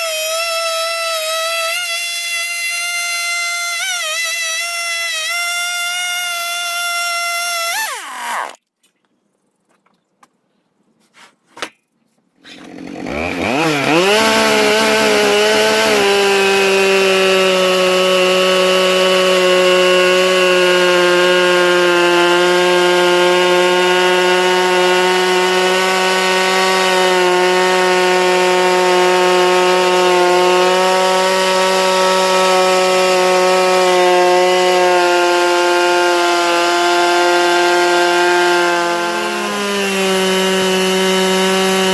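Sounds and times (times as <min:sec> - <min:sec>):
chainsaw cutting log: 0:00.0 - 0:08.6, 0:12.4 - 0:41.9.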